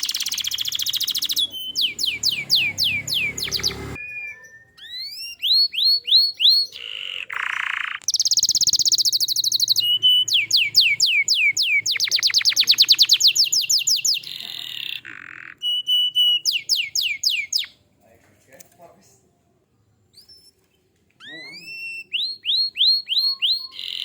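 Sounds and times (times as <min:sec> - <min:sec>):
canary singing: 0:00.0 - 0:17.9, 0:20.1 - 0:24.0.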